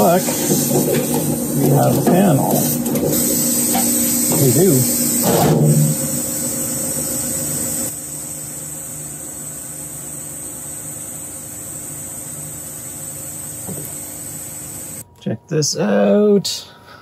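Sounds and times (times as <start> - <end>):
exhaust fan and pumps humming: 0.0 - 17.0.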